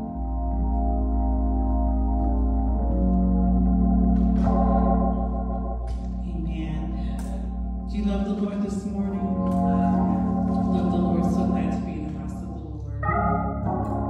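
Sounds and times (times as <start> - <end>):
organ playing sustained chords: 0.0 - 14.0.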